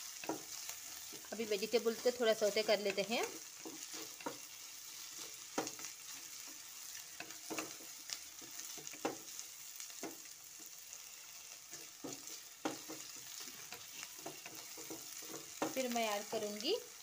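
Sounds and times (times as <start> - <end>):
spatula scraping a pan: 0.0 - 16.0
vegetables sizzling in hot oil: 0.0 - 17.0.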